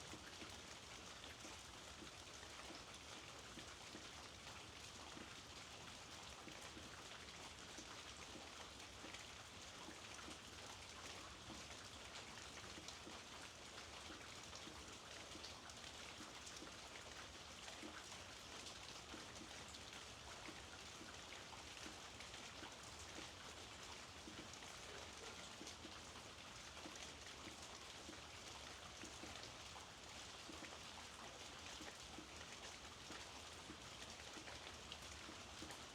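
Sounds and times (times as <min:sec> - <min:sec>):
faint rain: 0:00.0 - 0:35.9.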